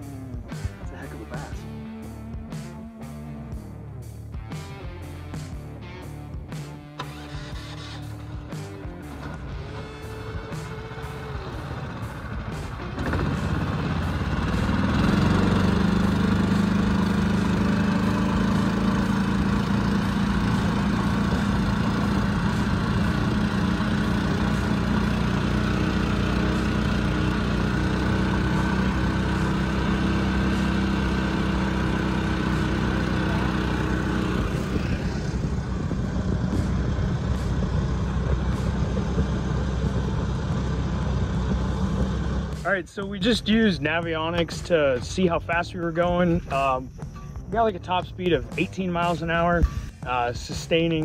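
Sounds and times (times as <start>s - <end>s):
engine running at full throttle: 0.0s - 51.0s.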